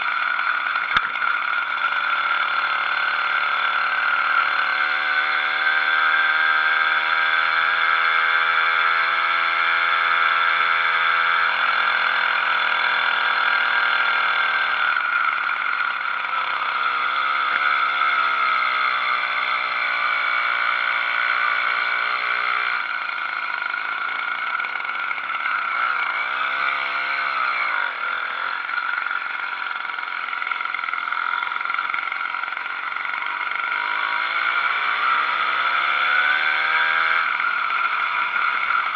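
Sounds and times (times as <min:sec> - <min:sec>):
small two-stroke engine running: 0:00.0 - 0:38.9.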